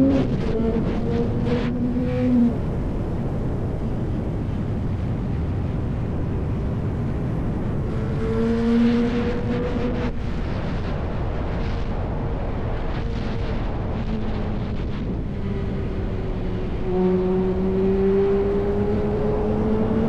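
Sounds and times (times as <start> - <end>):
motorcycle engine and exhaust: 0.0 - 20.0
wind and road noise: 0.0 - 20.0.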